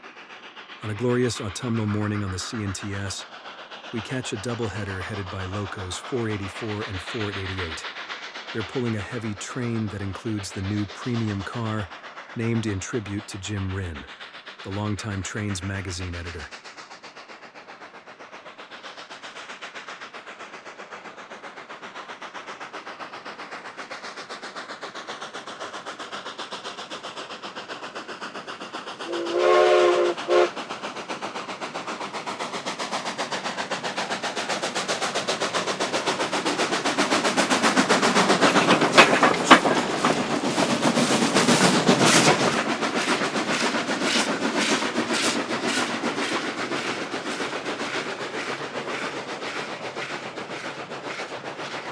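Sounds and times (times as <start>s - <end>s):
steam locomotive exhaust chuffing: 0.0s - 51.9s.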